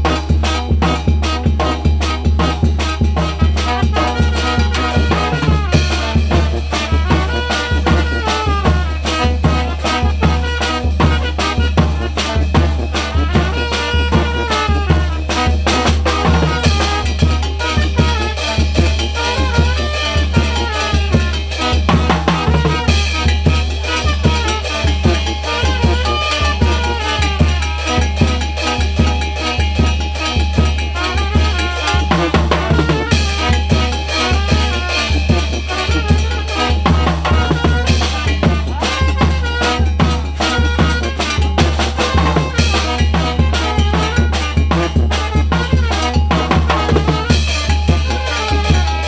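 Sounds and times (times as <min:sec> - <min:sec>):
band playing latin dance tune: 0:00.0 - 0:49.0
bass drum and snare beat: 0:00.0 - 0:49.0.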